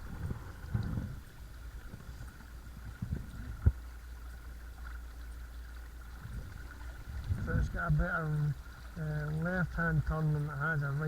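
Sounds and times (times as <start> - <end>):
water and hull rumble: 0.0 - 11.0.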